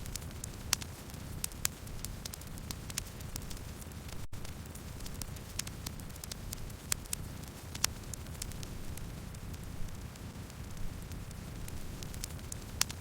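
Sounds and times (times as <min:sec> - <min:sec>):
burning wood crackling and popping: 0:00.0 - 0:13.0
low rumble of flames: 0:00.0 - 0:13.0.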